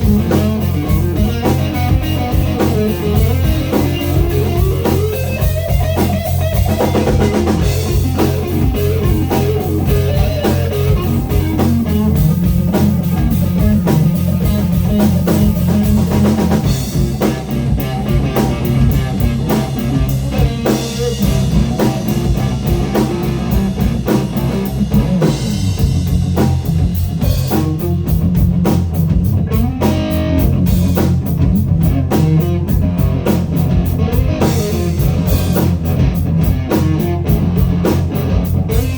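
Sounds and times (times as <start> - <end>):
drum kit beat: 0.0 - 38.9
electric guitar: 0.0 - 38.9.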